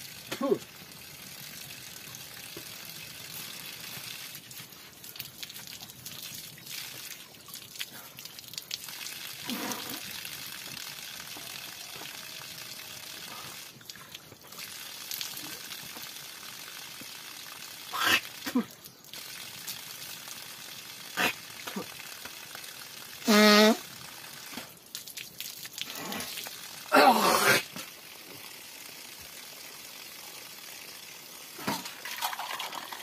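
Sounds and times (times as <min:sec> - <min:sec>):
water trickling into puddle: 0:00.0 - 0:33.0.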